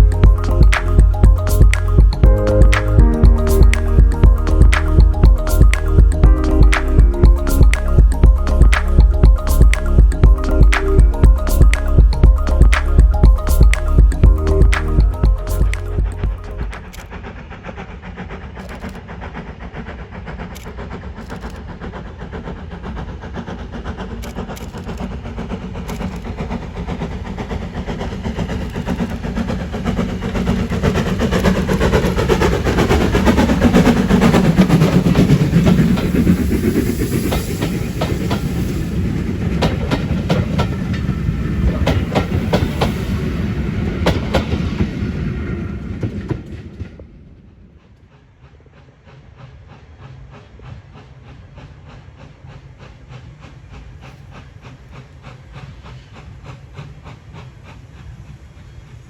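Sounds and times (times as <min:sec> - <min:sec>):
steam train rumbling past: 0:00.0 - 0:59.0
train wheels clicking over rail joints: 0:00.0 - 0:59.0.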